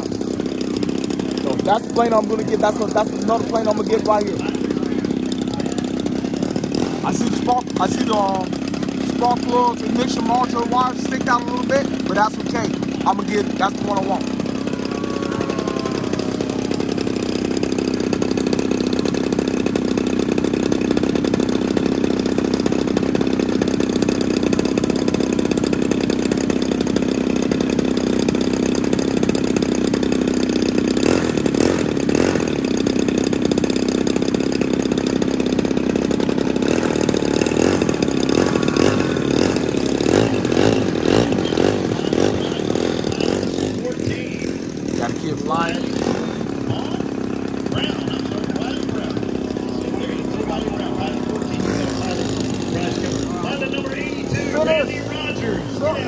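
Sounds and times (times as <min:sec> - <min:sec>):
model airplane engine idling: 0:00.0 - 0:56.0.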